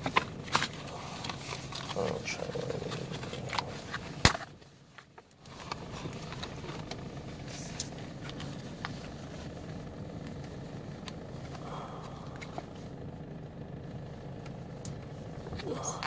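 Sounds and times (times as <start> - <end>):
car cabin engine hum: 0.0 - 16.0.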